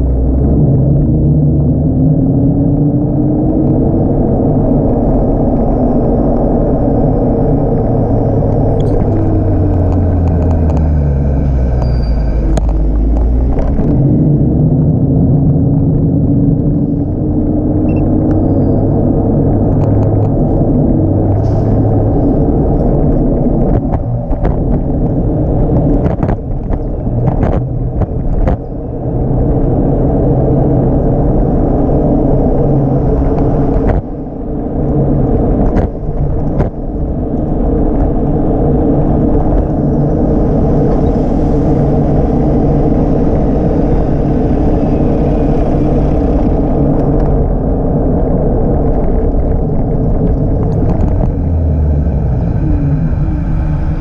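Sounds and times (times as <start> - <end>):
electric scooter rumble: 0.0 - 54.0.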